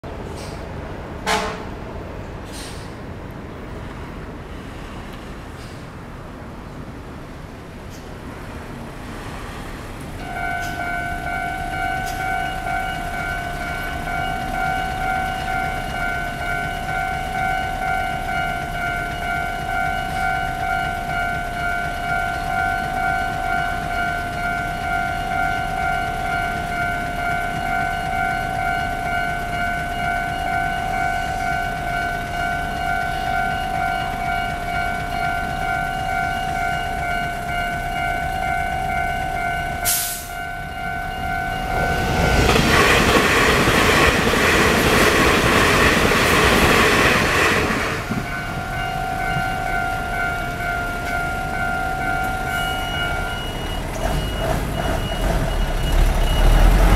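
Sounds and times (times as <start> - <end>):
train rushing past: 0.1 - 56.9
level-crossing warning bell ringing: 10.2 - 56.9.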